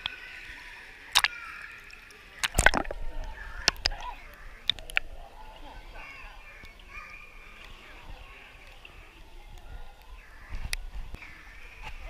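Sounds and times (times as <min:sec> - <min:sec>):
water splashing against camera: 0:00.0 - 0:12.0.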